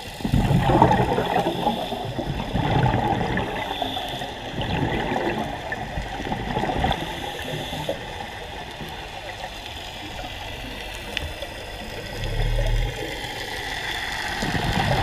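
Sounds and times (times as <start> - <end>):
regulator bubbles gurgling underwater: 0.0 - 15.0.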